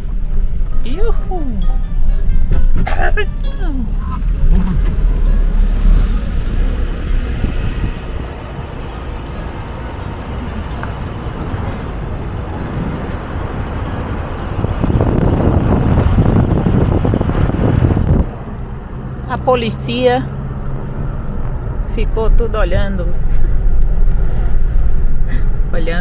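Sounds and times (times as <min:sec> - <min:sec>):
vehicle road and engine noise: 0:00.0 - 0:26.0.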